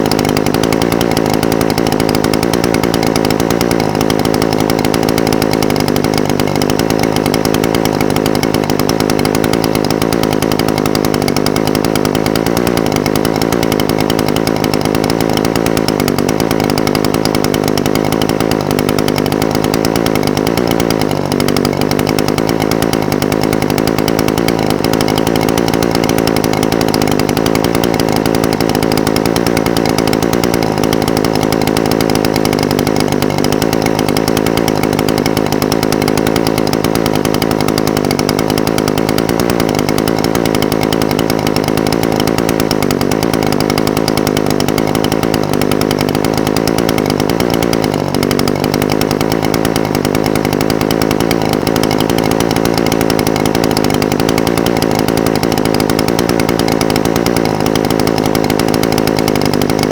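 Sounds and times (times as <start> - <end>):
brush cutter engine idling: 0.0 - 59.9.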